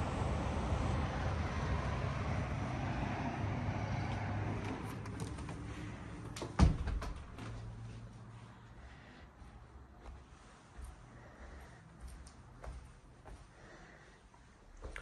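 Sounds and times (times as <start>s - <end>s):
distant traffic: 0.0s - 15.0s.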